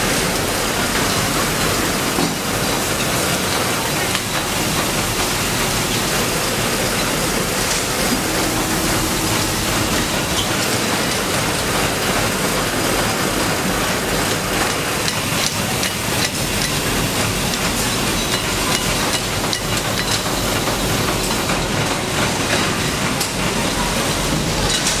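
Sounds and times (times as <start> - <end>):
coil winding machine whirring: 0.0 - 25.0.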